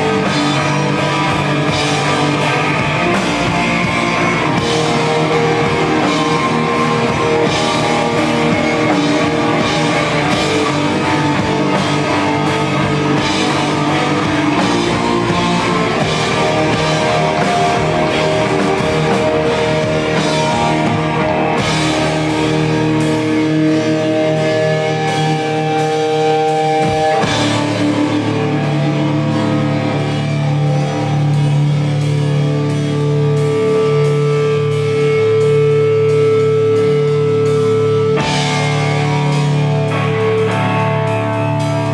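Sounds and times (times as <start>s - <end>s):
drum kit: 0.0s - 41.9s
electric guitar: 0.0s - 41.9s.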